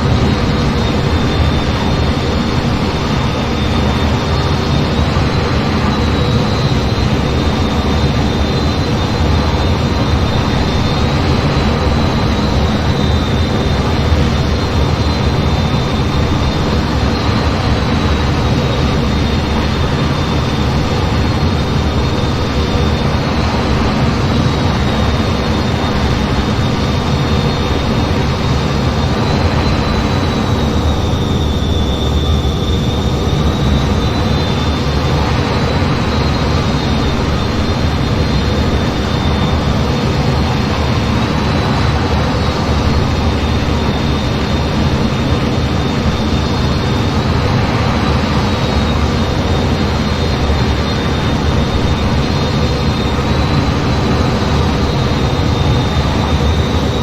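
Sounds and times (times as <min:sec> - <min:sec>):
jet engine roar with high whine: 0:00.0 - 0:57.0.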